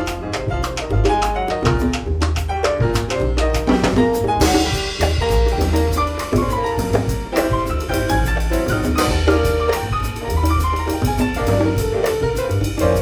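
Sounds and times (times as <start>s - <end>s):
congas: 0.0s - 13.0s
double bass: 0.0s - 13.0s
drum kit: 0.0s - 13.0s
piano: 0.0s - 13.0s.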